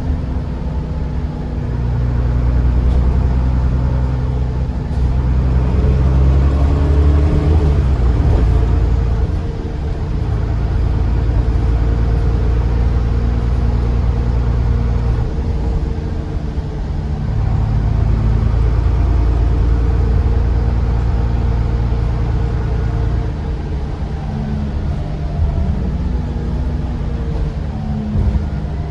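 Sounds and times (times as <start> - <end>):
diesel bus engine: 0.0 - 28.9.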